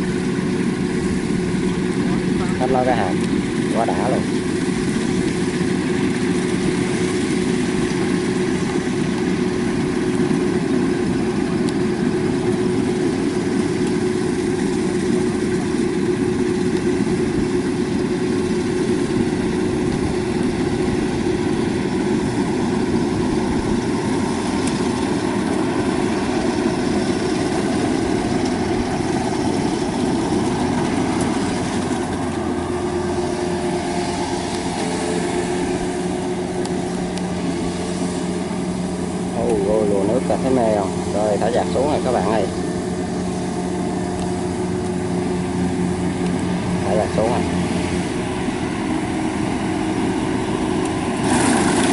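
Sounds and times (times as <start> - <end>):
combine harvester droning: 0.0 - 51.9.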